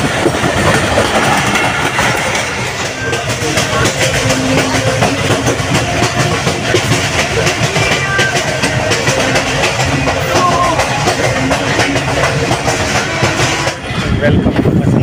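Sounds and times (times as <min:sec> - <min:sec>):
wheels clicking over rails: 0:00.0 - 0:14.7
train rumble and rattle: 0:00.0 - 0:15.0.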